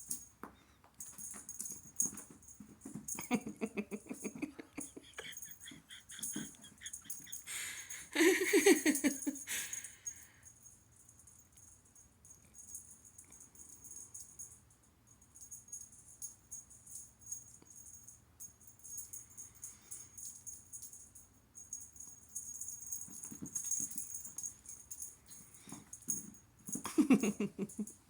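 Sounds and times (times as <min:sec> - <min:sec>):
toy rattling and jingling: 0:00.0 - 0:00.4, 0:01.0 - 0:28.0.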